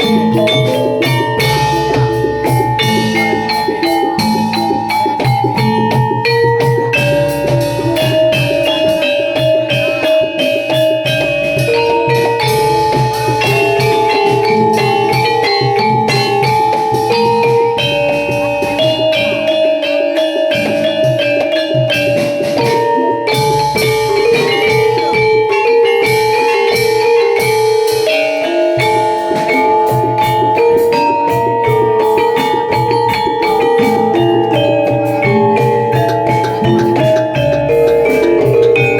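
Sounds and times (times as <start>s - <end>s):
fast dense drumming: 0.0s - 38.9s
metallophone melody: 0.0s - 38.9s.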